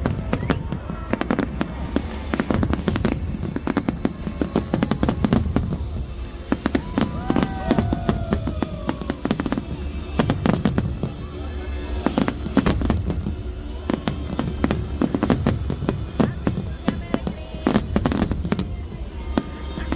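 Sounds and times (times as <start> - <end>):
fireworks bangs and crackles: 0.0 - 19.9.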